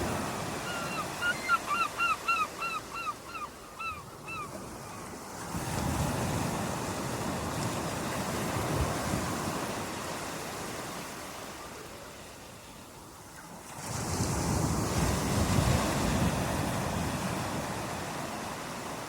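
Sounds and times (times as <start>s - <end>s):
ocean waves washing: 0.0s - 19.0s.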